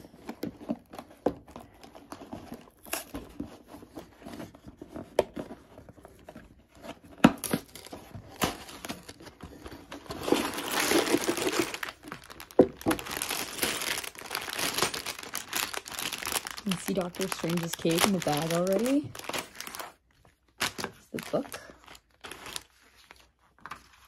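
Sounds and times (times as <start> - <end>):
packaging crinkling and tearing: 0.0 - 24.0.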